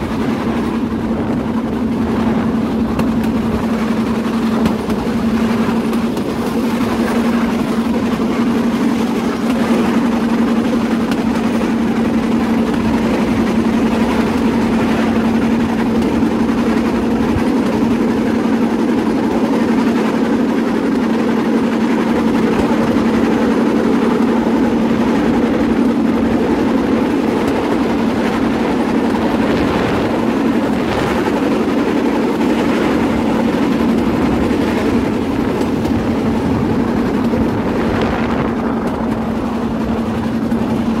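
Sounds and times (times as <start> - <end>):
constant low hum: 0.0 - 41.0
train wheels rattling on track: 0.0 - 41.0.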